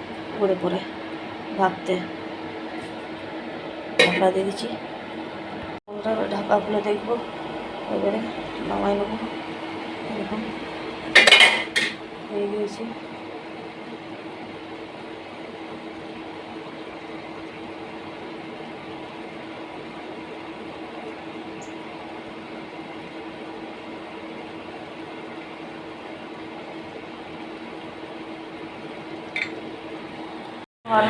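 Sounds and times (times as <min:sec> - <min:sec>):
machine hum and hiss: 0:00.0 - 0:30.6.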